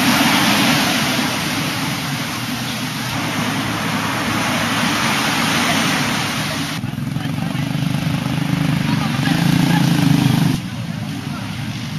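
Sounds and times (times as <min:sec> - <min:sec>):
surf washing onto beach: 0:00.0 - 0:11.9.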